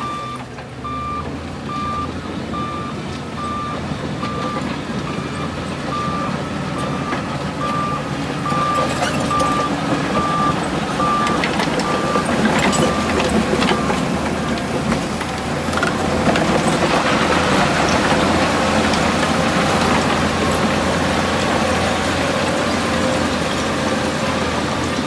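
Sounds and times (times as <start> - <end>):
diesel machinery running: 0.0 - 25.0
truck reversing beeps: 0.0 - 25.0.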